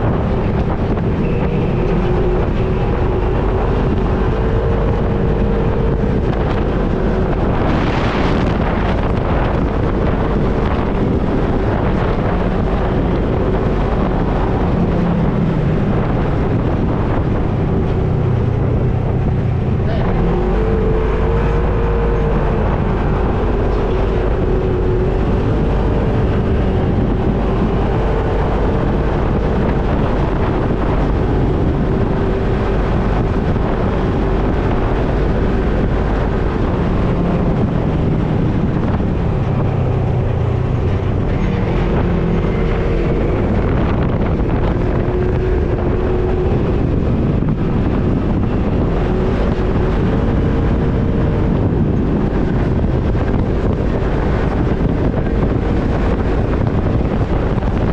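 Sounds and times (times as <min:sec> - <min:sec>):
off-road vehicle engine rumble: 0:00.0 - 0:57.9.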